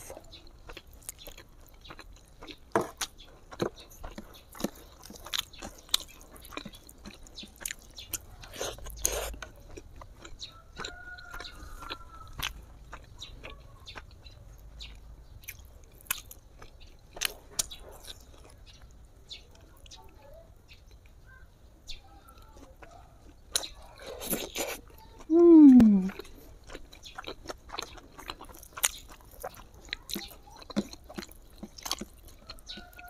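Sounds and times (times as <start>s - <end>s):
chewing and biting: 0.0s - 21.2s, 22.3s - 33.0s.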